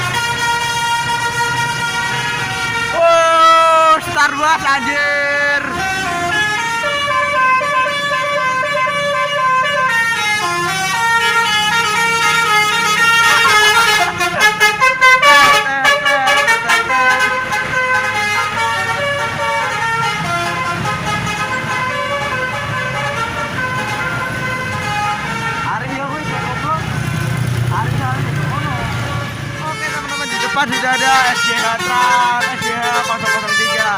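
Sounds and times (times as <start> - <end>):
musical bus air horn: 0.0 - 4.1, 4.7 - 26.8, 29.0 - 33.9.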